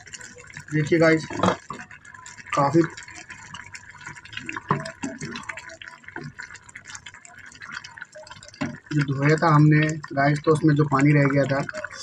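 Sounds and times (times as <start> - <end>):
liquid bubbling in a pan: 0.0 - 12.0
spatula stirring against pan: 0.0 - 12.0.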